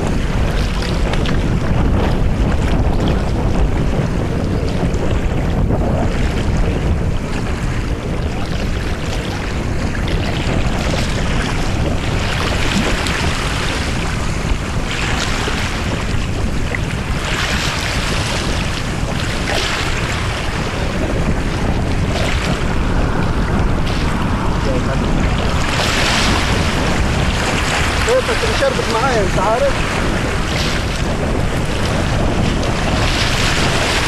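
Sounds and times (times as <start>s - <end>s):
small sea waves lapping: 0.0s - 34.0s
wind buffeting microphone: 0.0s - 34.0s.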